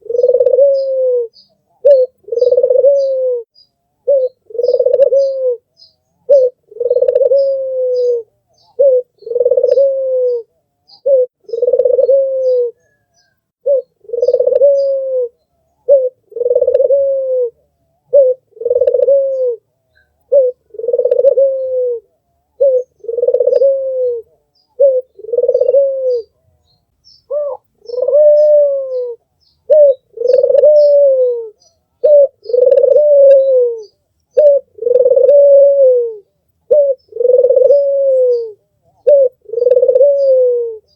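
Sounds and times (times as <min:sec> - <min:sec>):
small birds chirping: 0:00.0 - 0:17.0, 0:17.6 - 0:40.9
dove cooing: 0:00.0 - 0:26.7, 0:27.3 - 0:40.9.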